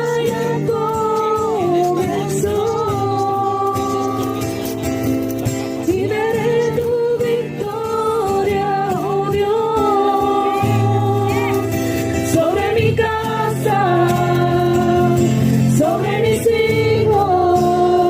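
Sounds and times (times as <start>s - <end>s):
backing band with bass: 0.0s - 18.0s.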